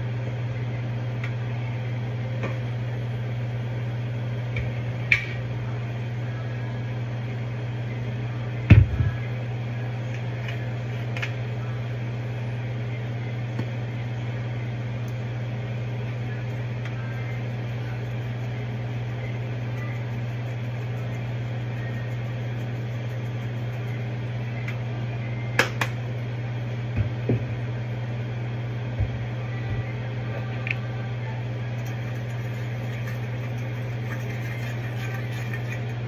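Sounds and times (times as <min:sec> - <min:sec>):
low fan hum: 0:00.0 - 0:36.0.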